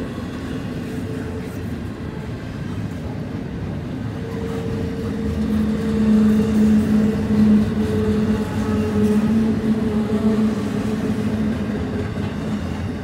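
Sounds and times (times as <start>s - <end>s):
freight wheels rumbling on rail: 0.0s - 13.0s.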